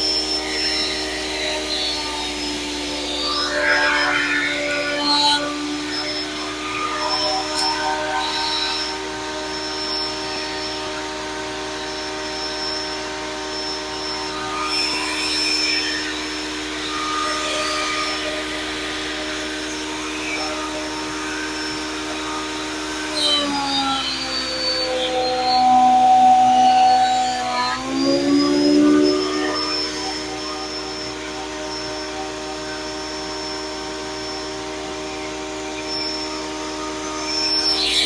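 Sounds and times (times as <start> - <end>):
jointer motor whining: 0.0 - 38.0.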